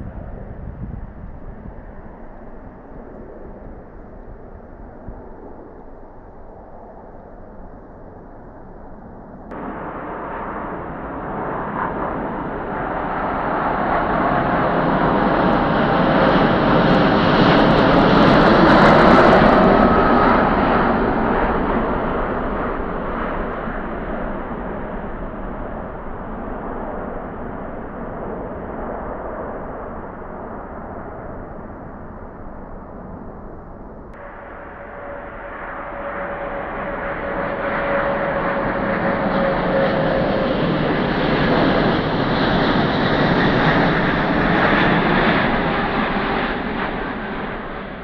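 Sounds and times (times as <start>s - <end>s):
jet engines roaring at take-off: 0.0s - 48.0s.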